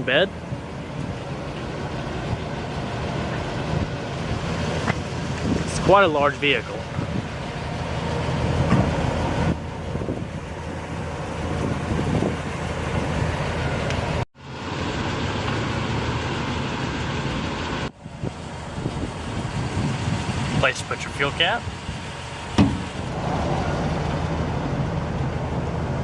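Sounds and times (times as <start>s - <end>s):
engine idling with hiss: 0.0s - 26.0s.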